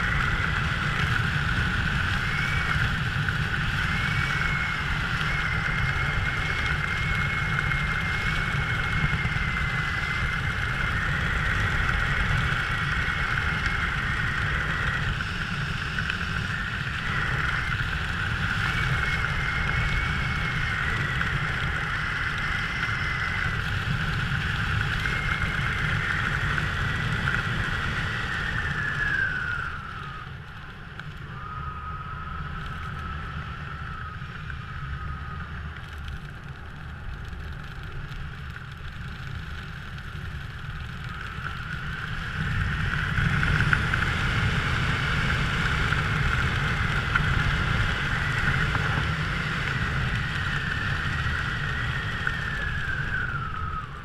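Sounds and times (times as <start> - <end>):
motor whine: 0.0 - 54.0
wind rumbling on microphone: 0.0 - 54.0.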